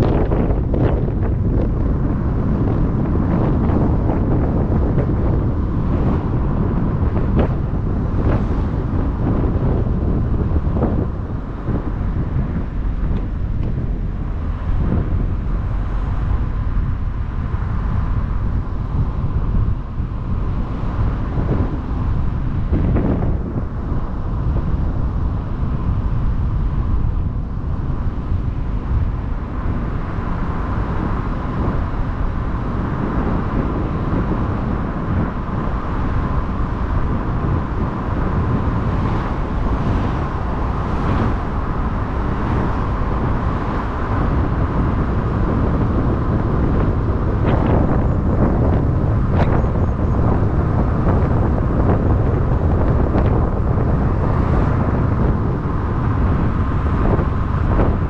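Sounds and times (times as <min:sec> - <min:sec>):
car road and tyre rumble: 0:00.0 - 0:58.0
wind buffeting microphone: 0:00.0 - 0:58.0.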